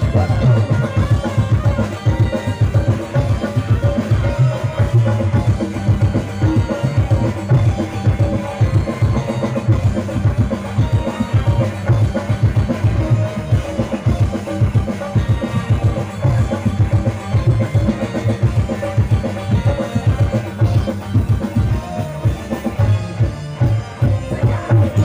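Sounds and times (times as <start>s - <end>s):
live band music through loudspeakers: 0.0s - 25.0s.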